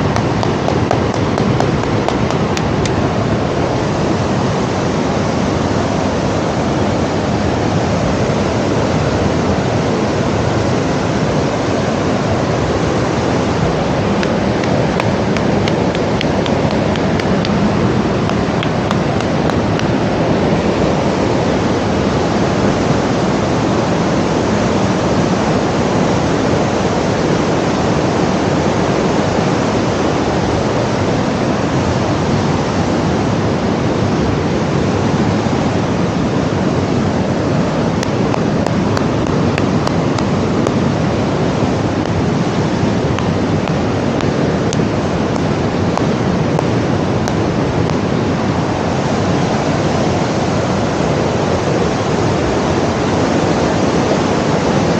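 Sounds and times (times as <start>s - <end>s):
steady rushing noise: 0.0s - 54.9s.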